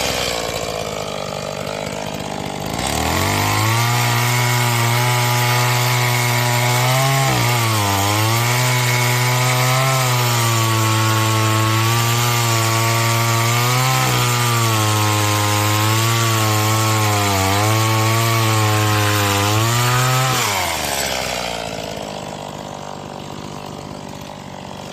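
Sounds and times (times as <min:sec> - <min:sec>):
chainsaw cutting wood: 0:00.0 - 0:24.9
chainsaw idling: 0:00.0 - 0:24.9.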